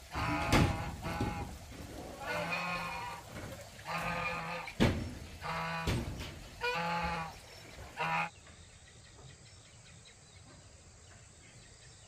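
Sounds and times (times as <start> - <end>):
farm animal calls: 0.0 - 11.2.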